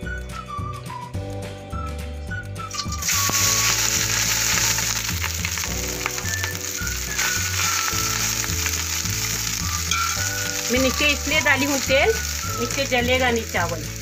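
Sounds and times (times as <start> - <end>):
hot oil sizzling in a pot: 2.7 - 14.0.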